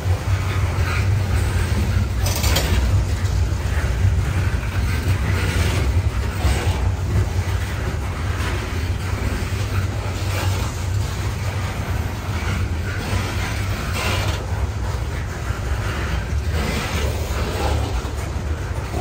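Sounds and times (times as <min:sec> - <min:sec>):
train cars clattering: 0:00.0 - 0:19.0
train wheels rumbling on rails: 0:00.0 - 0:19.0.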